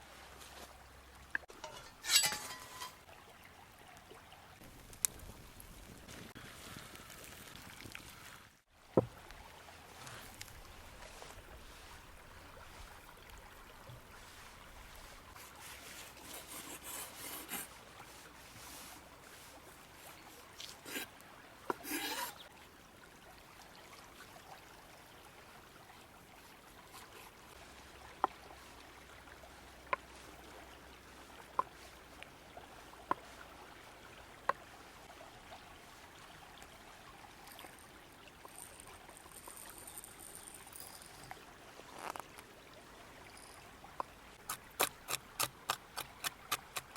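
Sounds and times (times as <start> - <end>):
river flowing: 0.9 - 4.9, 7.1 - 46.9.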